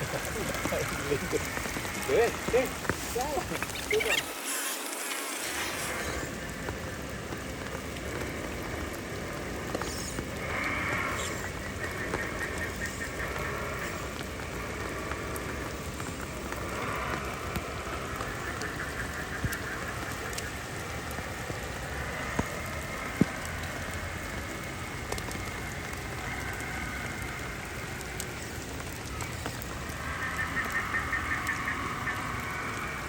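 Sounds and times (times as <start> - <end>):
sharp taps of raindrops: 0.0 - 33.0
steady rain falling: 0.0 - 33.0.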